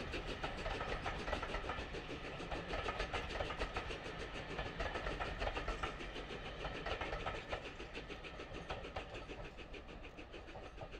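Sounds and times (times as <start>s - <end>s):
train wheels clattering over rails: 0.0s - 10.9s.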